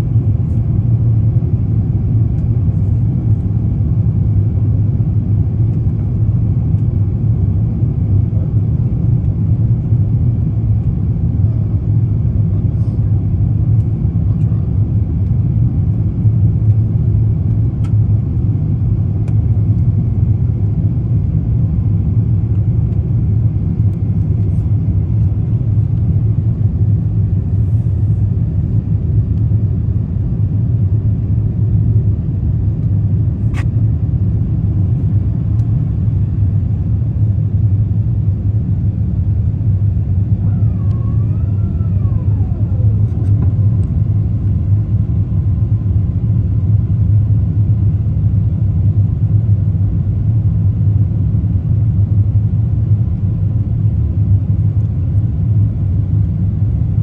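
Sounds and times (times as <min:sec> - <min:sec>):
airliner engine rumble: 0:00.0 - 0:57.0.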